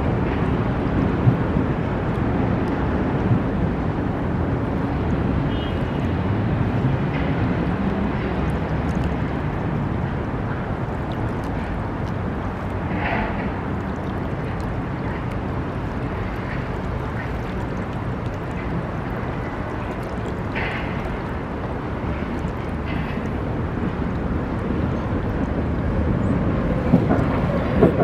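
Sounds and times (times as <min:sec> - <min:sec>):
distant city traffic: 0:00.0 - 0:28.0
flooded river rumbling: 0:00.0 - 0:28.0.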